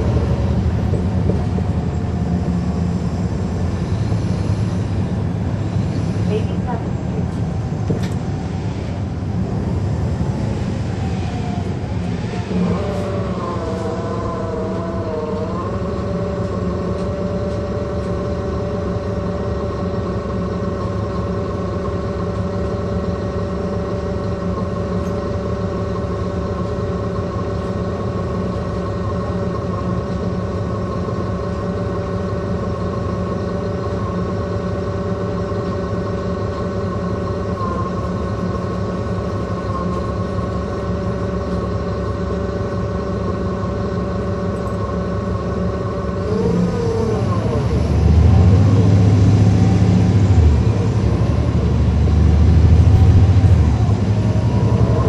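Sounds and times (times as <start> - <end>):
bus diesel engine drone: 0.0 - 55.0
axle whine: 7.3 - 55.0.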